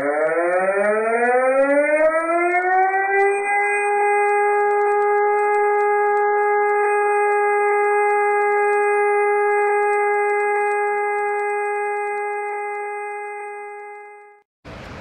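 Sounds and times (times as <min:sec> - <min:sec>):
siren winding up: 0:00.0 - 0:14.4.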